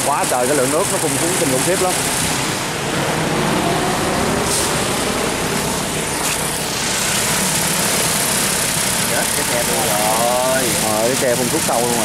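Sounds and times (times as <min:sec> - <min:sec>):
drone propellers whirring: 0:00.6 - 0:12.0.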